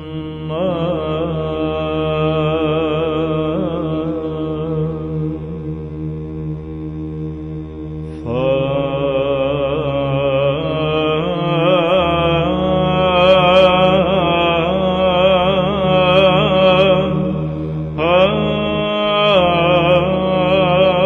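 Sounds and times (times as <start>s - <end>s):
held vocal drone: 0.0s - 21.0s
solo chant melody: 0.0s - 21.0s.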